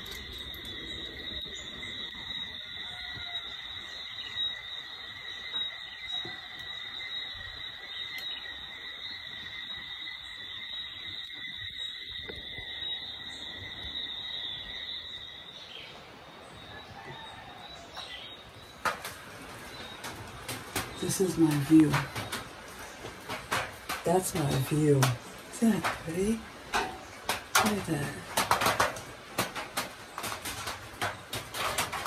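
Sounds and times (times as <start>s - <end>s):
insect chorus drone: 0.0s - 32.0s.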